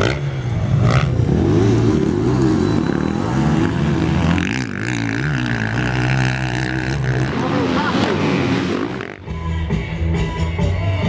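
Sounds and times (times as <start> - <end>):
motocross bike engine revving: 0.0 - 9.4.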